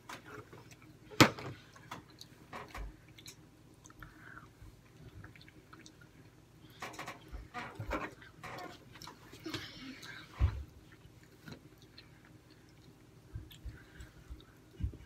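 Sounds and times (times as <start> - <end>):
faint chewing of fried food: 0.2 - 15.0.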